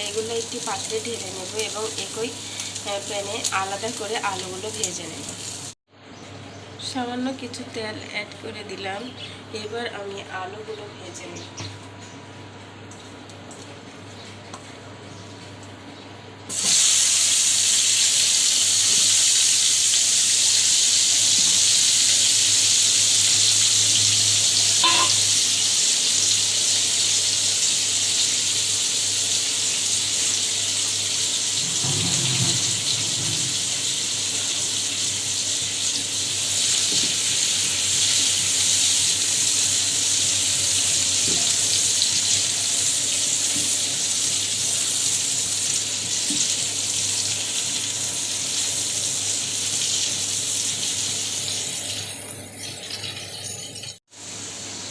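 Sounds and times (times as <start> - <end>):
potatoes sizzling in hot oil: 0.0 - 5.8, 16.5 - 54.8.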